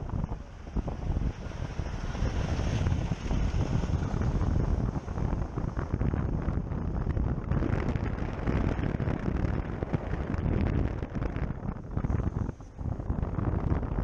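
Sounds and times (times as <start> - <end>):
road noise: 0.0 - 14.0
traffic close alongside: 0.0 - 14.0
wind rushing over microphone: 0.0 - 14.0.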